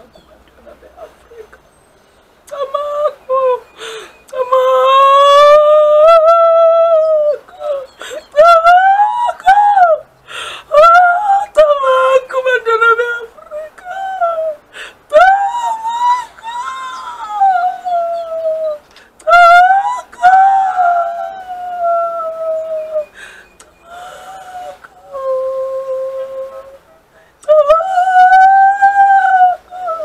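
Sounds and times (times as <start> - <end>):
woman wailing chant: 2.5 - 10.0, 10.7 - 23.2, 23.8 - 26.8, 27.4 - 30.0.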